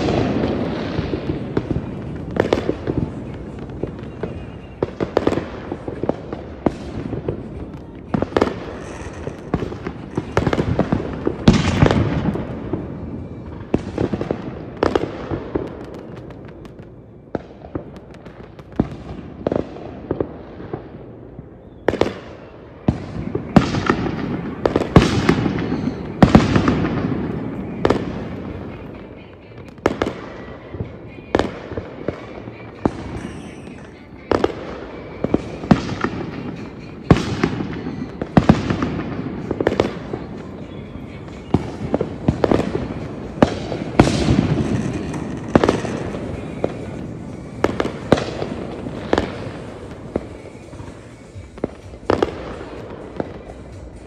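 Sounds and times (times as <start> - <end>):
firework shells bursting: 0.0 - 16.9, 21.6 - 54.0.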